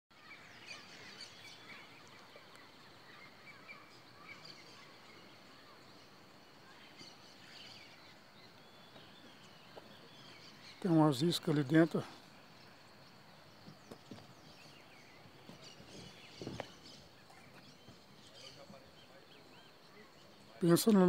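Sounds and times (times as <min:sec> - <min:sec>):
small birds chirping: 0:00.1 - 0:21.0
steady background hiss: 0:00.2 - 0:21.0.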